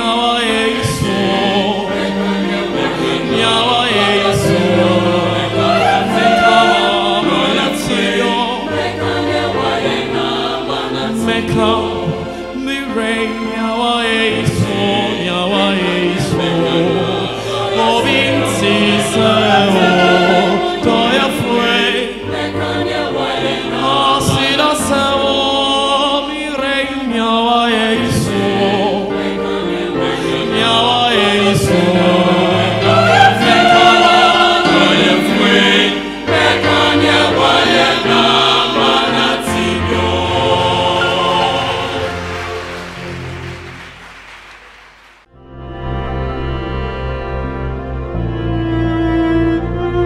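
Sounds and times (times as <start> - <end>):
mixed choir singing: 0.0 - 44.1.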